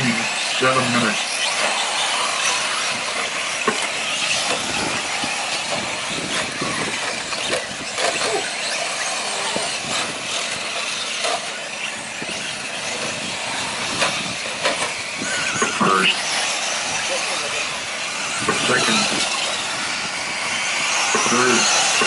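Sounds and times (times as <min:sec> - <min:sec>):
rc trucks high-pitched motor drone: 0:00.0 - 0:22.0.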